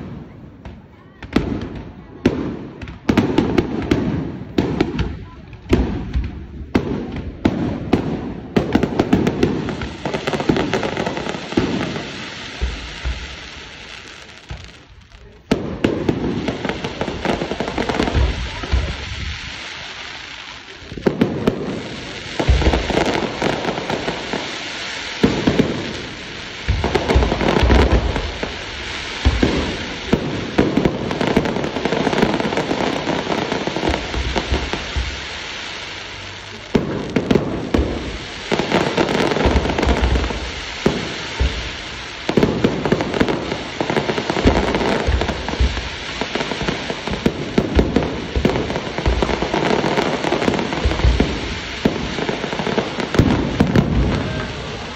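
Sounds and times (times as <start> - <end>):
firework shells booming: 0.0 - 19.9, 20.7 - 54.9
firework crackling and fizzing: 0.0 - 54.9.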